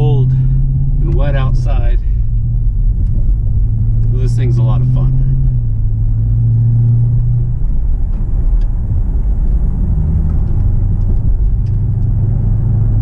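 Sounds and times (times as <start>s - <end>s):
car engine drone: 0.0s - 13.0s
road noise: 0.0s - 13.0s.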